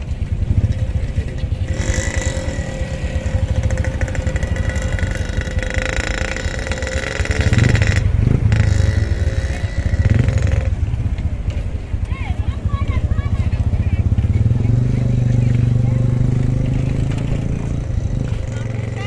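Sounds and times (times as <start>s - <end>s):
boat motor chugging: 0.2s - 11.2s, 11.8s - 19.0s.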